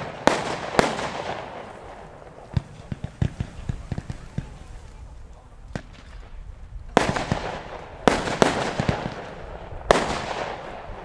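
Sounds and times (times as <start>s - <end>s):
firework reports: 0.0s - 11.0s.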